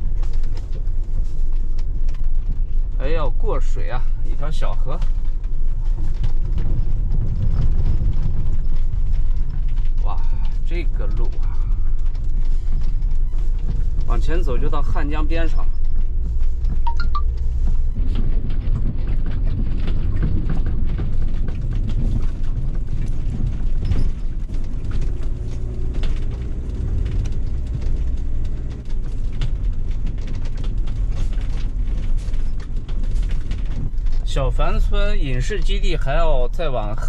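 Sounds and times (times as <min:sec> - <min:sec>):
cab knocking and rattling: 0:00.0 - 0:37.0
engine and road rumble: 0:00.0 - 0:37.0.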